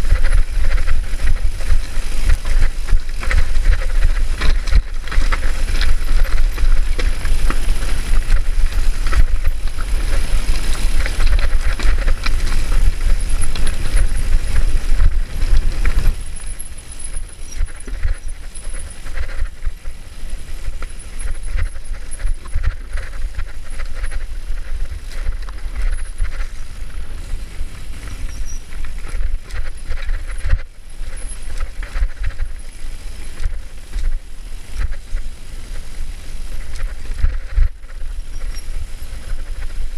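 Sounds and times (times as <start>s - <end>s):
tyres rolling over stones: 0.0s - 37.4s
bike rattling and knocking: 0.0s - 39.9s
wind buffeting microphone: 0.0s - 39.9s.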